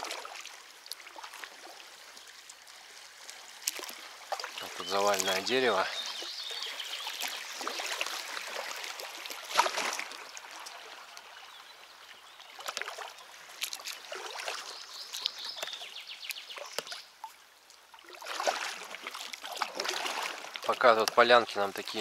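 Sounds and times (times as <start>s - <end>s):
water dripping: 0.0s - 11.4s, 12.6s - 22.0s
paddle splashing in water: 0.0s - 22.0s.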